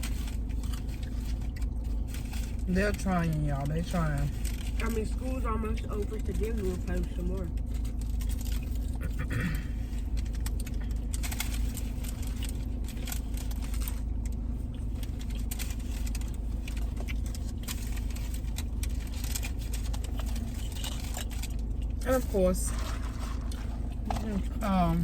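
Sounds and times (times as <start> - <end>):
car engine rumble from inside: 0.0 - 25.0.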